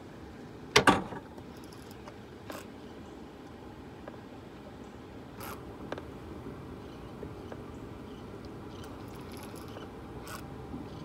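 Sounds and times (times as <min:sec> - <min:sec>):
low steady background rumble: 0:00.0 - 0:11.0.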